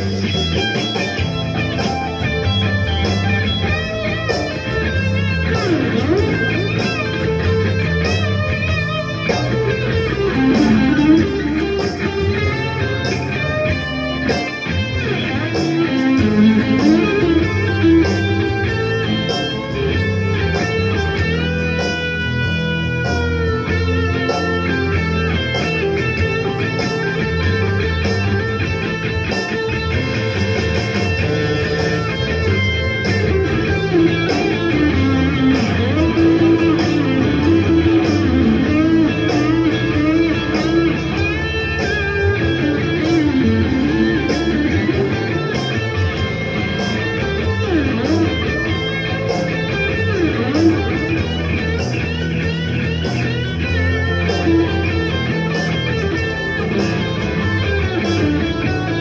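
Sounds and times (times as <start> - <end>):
electric blues guitar lead: 0.0 - 59.0
rhythmic backing music: 0.0 - 59.0.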